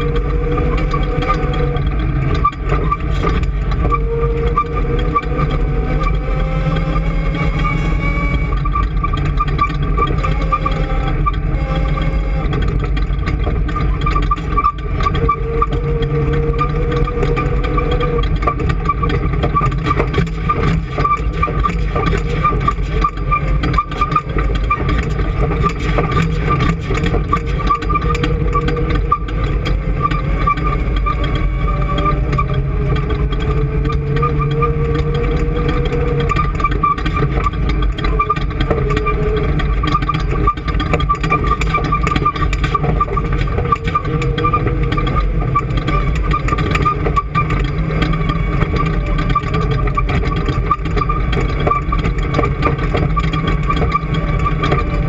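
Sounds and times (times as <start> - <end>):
engine running with high whine: 0.0 - 55.0.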